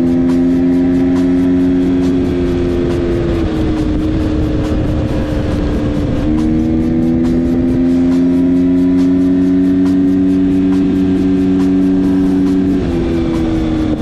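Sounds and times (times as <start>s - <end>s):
dirt bike engine buzzing: 0.0s - 14.0s.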